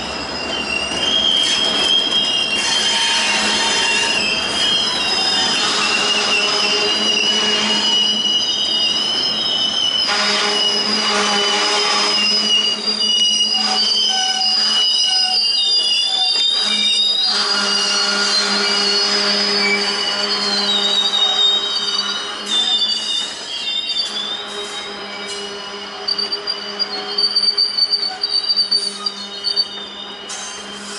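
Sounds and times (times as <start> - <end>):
steel wheels squealing: 0.0 - 30.9.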